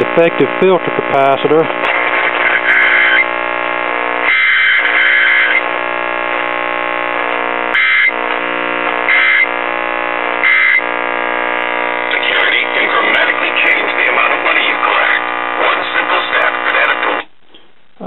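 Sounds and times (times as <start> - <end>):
buzzy hum from radio loudspeaker: 0.0 - 18.0.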